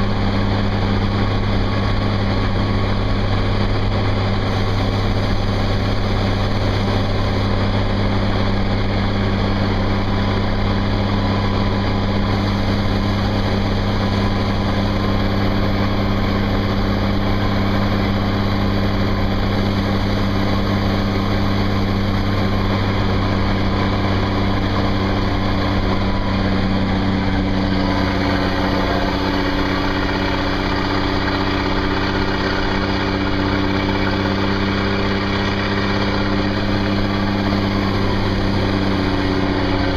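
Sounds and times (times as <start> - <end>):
diesel truck engine under load: 0.0 - 39.9.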